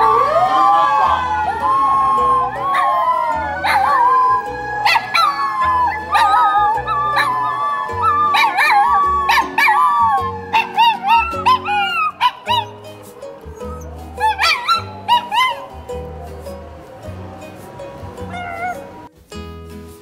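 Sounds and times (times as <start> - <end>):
dogs howling: 0.0 - 19.1
background music: 0.0 - 20.0.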